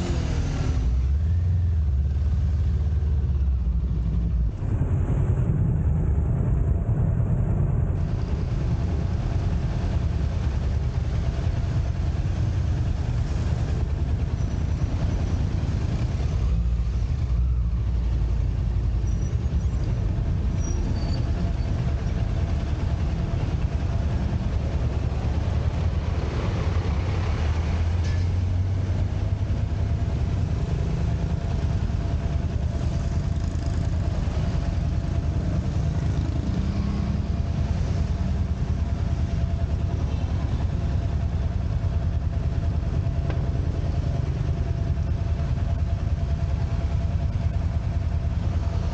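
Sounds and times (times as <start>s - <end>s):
motorcycle engine rumble: 0.0s - 48.9s
passing traffic: 0.0s - 48.9s.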